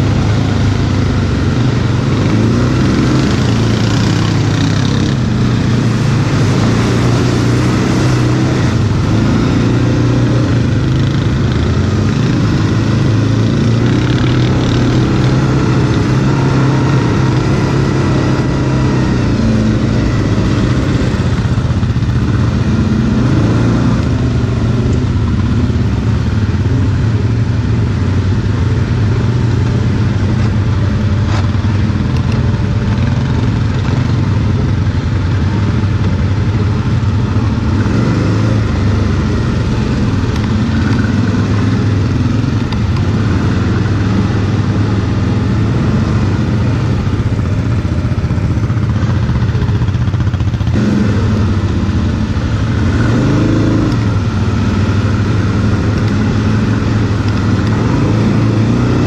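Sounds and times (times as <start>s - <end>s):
quad engine running: 0.0s - 59.0s.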